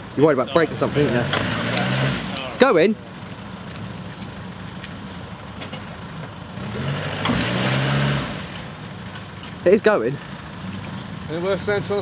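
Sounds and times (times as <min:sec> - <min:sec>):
vehicle engine revving: 0:00.3 - 0:02.8, 0:03.4 - 0:12.0.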